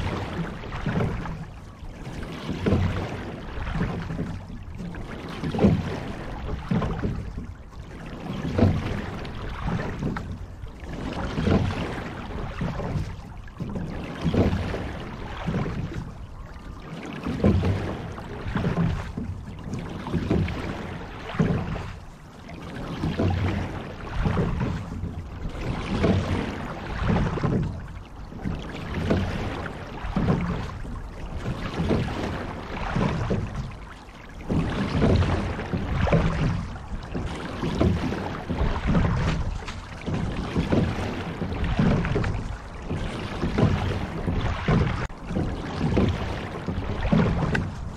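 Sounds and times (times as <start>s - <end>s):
oars rowing through water: 0.0s - 47.9s.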